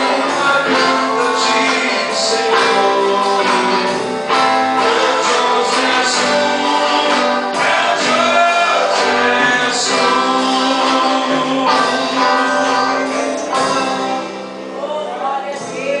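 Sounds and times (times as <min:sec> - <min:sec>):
band playing gospel song: 0:00.0 - 0:16.0
people singing: 0:00.0 - 0:16.0.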